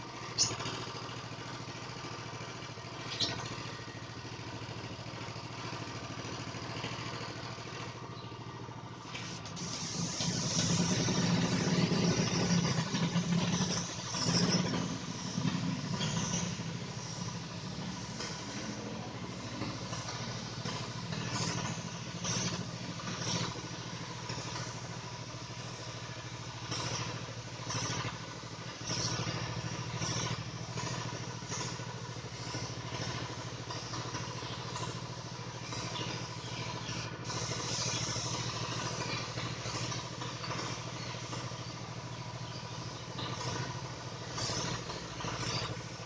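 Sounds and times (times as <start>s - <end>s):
motor hum: 0.0s - 46.0s
short hissing bursts: 9.0s - 46.0s.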